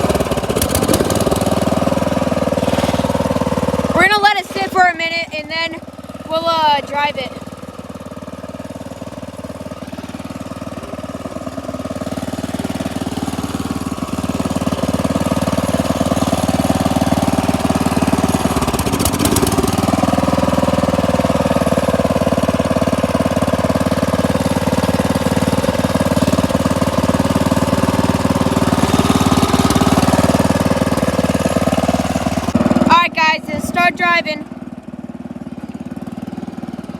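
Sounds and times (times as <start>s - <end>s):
tractor engine idling: 0.0s - 36.9s.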